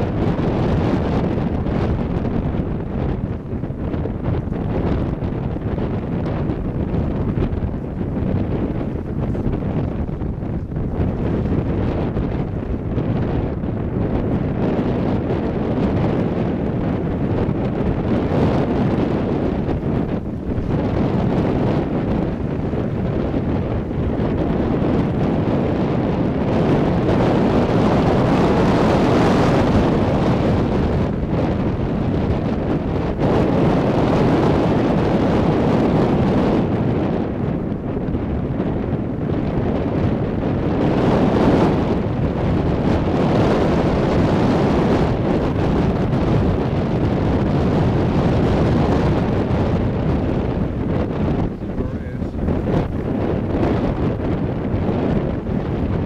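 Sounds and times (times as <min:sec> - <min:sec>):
wind blowing across microphone: 0:00.0 - 0:56.0.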